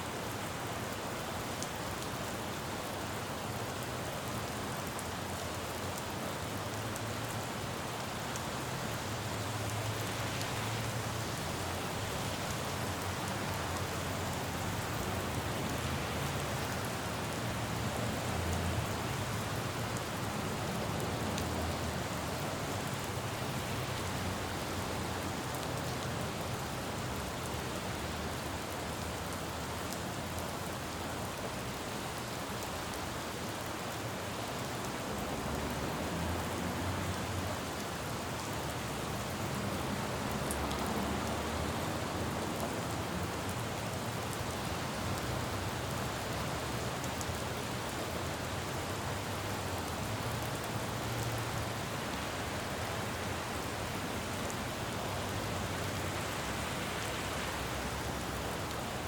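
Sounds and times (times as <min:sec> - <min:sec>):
rain falling on road: 0:00.0 - 0:59.0.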